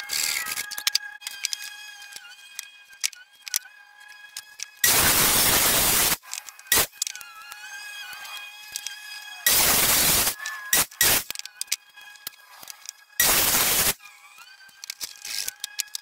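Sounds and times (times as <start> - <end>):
faint background music: 0.0 - 16.0
miter saw cutting wood: 1.4 - 16.0.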